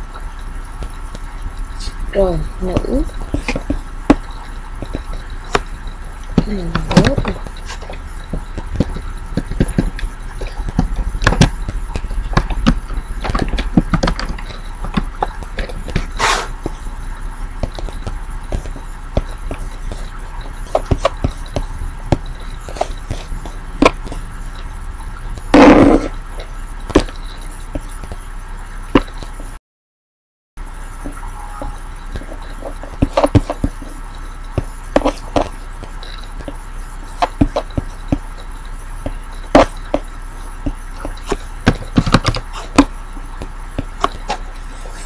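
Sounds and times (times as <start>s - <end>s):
low hum: 0.0s - 29.6s, 30.6s - 45.0s.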